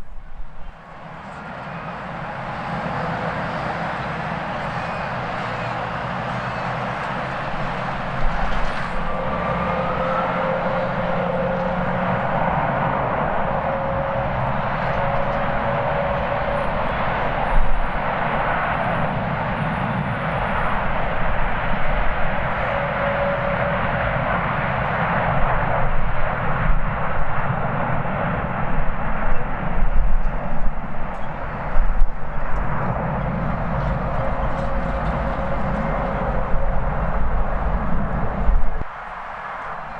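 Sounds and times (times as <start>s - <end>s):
wind buffeting microphone: 0.0s - 39.9s
jet engines roaring: 0.7s - 39.9s.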